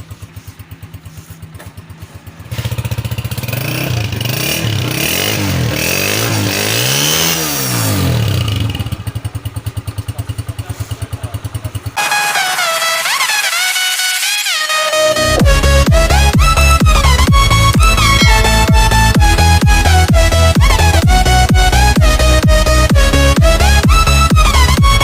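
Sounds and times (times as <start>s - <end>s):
motorcycle engine revving: 0.0s - 12.6s, 14.2s - 25.0s.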